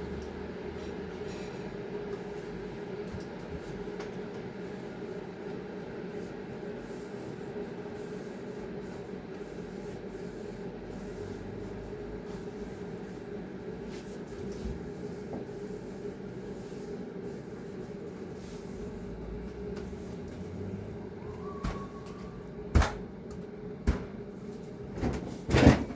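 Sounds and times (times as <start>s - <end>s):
steady mechanical hum: 0.0s - 25.9s.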